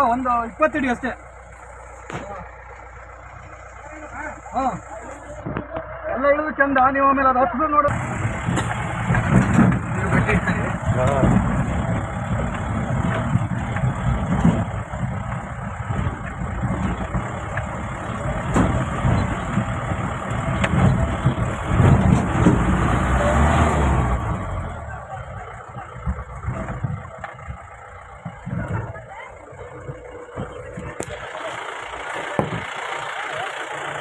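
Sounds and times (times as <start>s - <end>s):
suv engine rumbling off-road: 0.0s - 34.0s.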